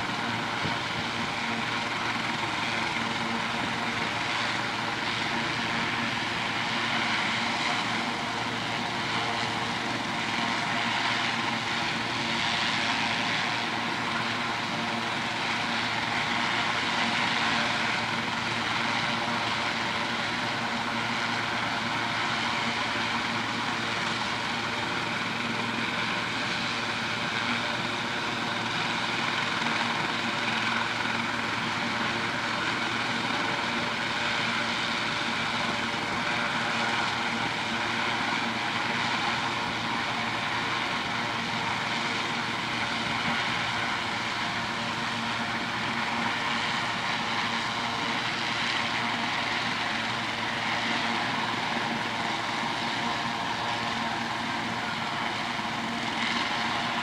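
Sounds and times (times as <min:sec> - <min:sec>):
constant rushing noise: 0:00.0 - 0:57.0
helicopter turbine whine: 0:00.0 - 0:57.0.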